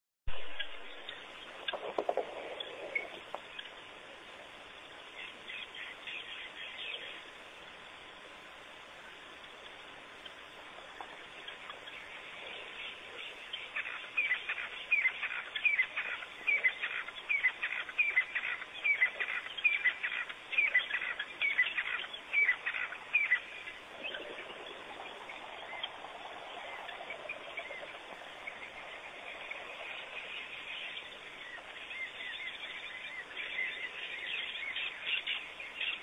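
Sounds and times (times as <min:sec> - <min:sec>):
steady outdoor hiss: 0:00.3 - 0:36.0.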